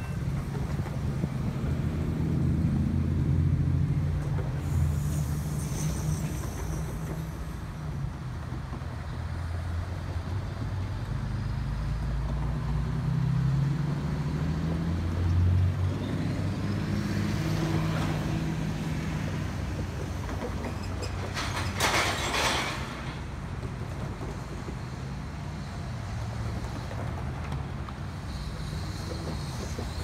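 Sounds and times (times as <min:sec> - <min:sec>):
vehicles driving past: 0:00.0 - 0:30.0.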